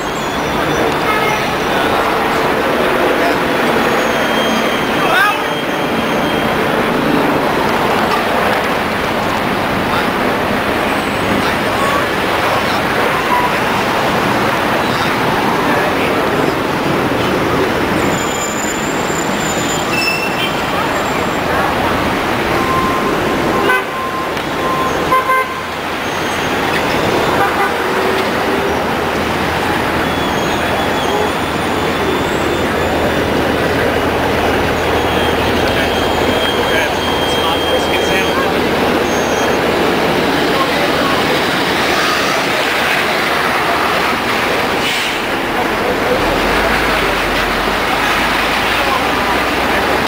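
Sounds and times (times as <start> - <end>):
crowd voices: 0.0 - 50.0
murmur of pedestrians: 0.0 - 50.0
road traffic: 0.0 - 50.0.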